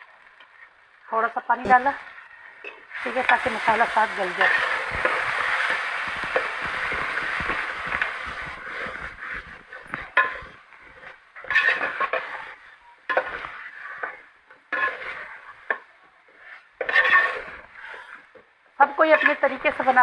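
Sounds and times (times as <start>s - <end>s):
spices sizzling in hot oil: 0.0s - 20.0s
spoon stirring and scraping pot: 1.7s - 20.0s.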